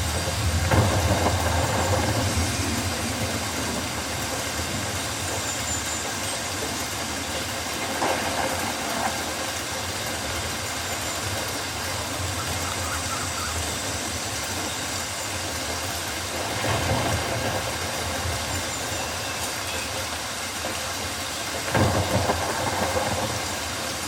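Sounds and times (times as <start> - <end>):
rain falling on foliage: 0.0 - 24.0.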